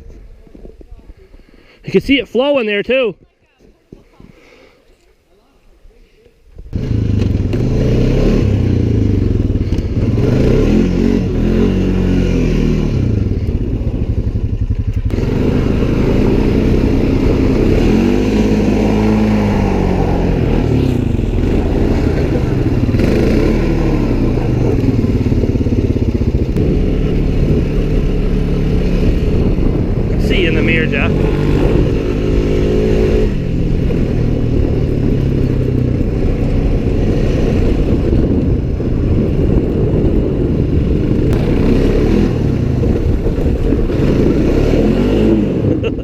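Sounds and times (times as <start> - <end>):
atv engine revving: 6.6 - 46.0.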